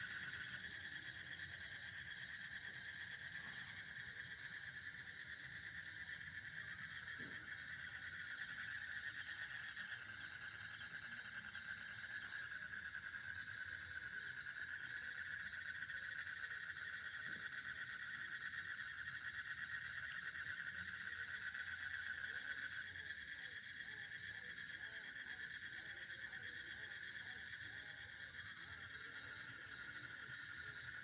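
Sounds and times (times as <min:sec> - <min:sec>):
frogs trilling: 0:00.0 - 0:31.0.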